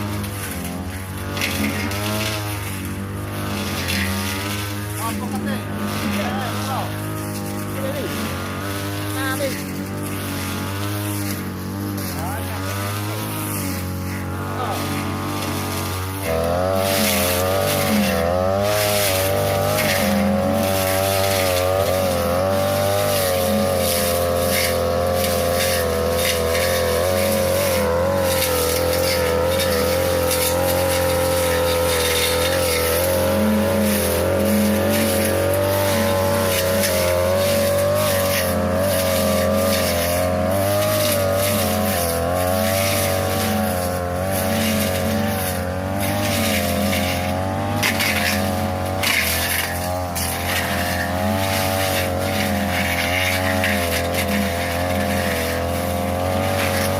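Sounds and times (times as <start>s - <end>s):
blade hitting grass and saplings: 0.0s - 56.9s
brush cutter engine revving: 0.0s - 56.9s.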